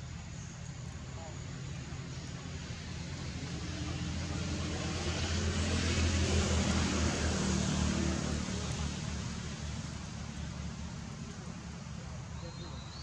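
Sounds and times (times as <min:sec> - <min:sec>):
passing engine hum: 0:00.0 - 0:13.0.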